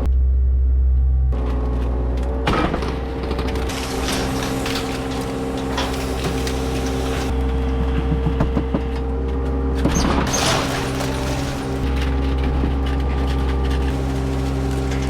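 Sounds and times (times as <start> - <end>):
knocks and scrapes: 1.4 - 15.0
skid steer engine under load: 1.4 - 15.0.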